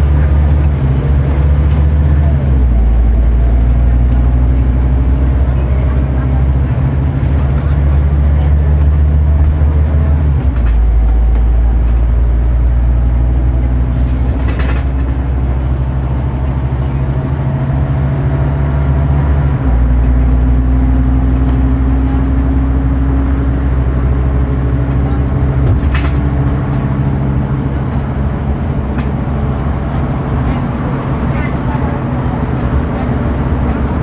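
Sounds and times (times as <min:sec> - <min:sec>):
bus diesel engine running: 0:00.0 - 0:34.0.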